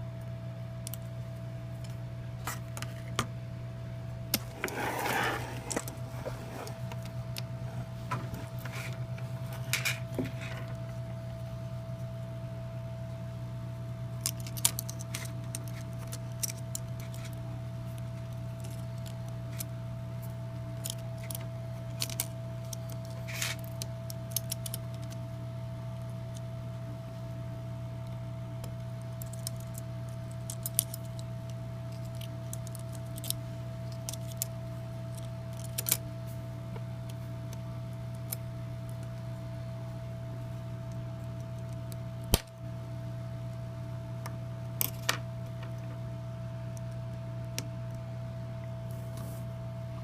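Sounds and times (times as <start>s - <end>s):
electrical hum with faint whine: 0.0s - 50.0s.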